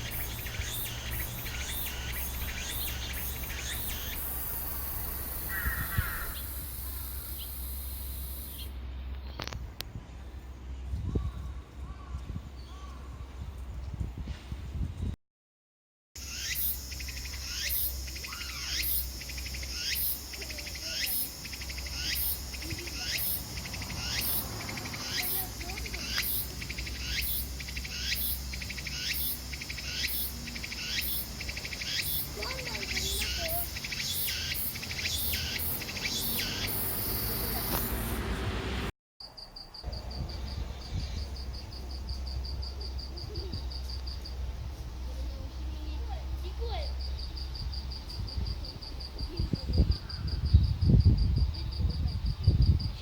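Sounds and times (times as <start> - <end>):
cricket trilling: 0.0 - 8.7, 16.2 - 38.3, 39.2 - 53.0
cicada singing: 0.0 - 8.8, 16.2 - 53.0.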